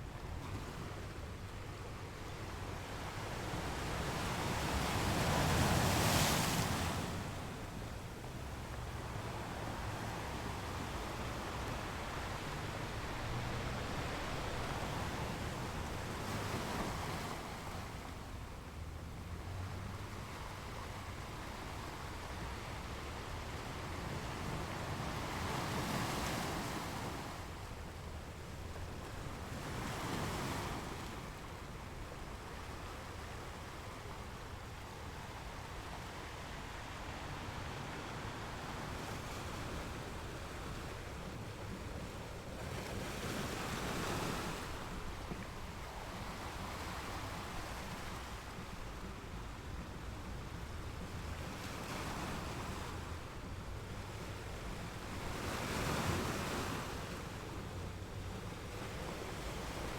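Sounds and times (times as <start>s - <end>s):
sea waves breaking on shore: 2.5s - 59.9s.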